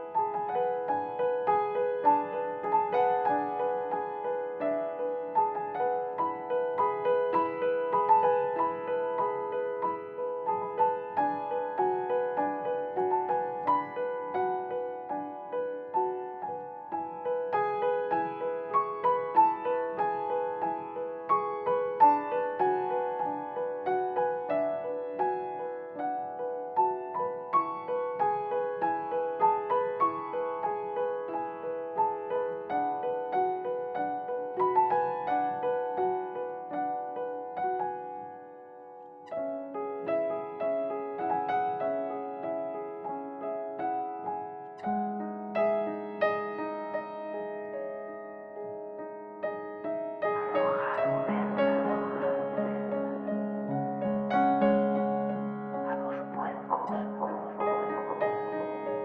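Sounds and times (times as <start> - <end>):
gentle piano melody: 0.0 - 59.0.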